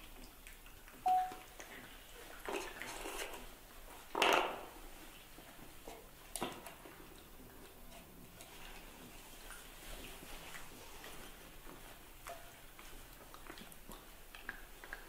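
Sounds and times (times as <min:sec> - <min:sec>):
animals scuffling and rustling: 0:01.8 - 0:15.0.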